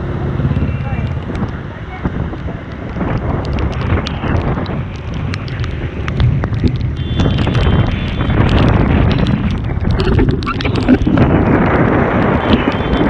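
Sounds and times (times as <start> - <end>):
motorcycle engine and road rumble: 0.0 - 13.0
wind on microphone: 0.0 - 13.0
sharp ticks: 2.3 - 13.0.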